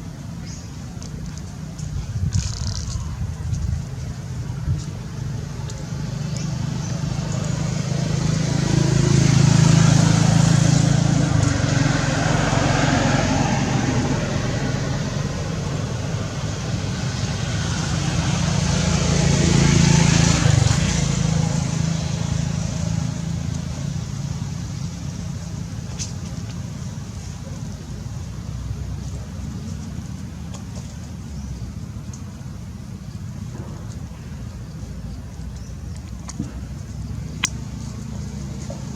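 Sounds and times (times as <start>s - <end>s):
road noise: 0.0s - 38.9s
vehicle engine: 0.0s - 38.9s.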